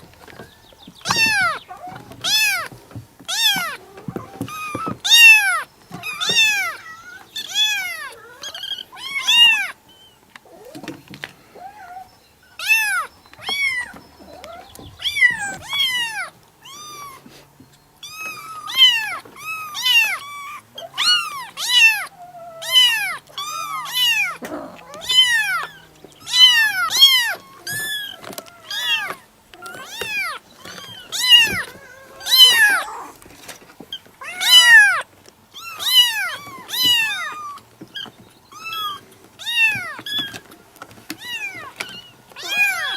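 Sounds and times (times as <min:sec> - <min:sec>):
kitten meowing: 0:01.0 - 0:02.7, 0:03.3 - 0:09.8, 0:11.8 - 0:17.3, 0:18.0 - 0:33.2, 0:34.2 - 0:35.0, 0:35.6 - 0:40.4, 0:41.2 - 0:42.9.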